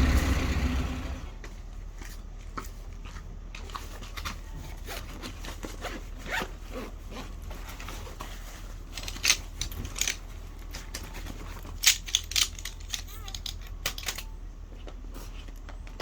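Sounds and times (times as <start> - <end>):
rustling and scraping: 1.4 - 16.0.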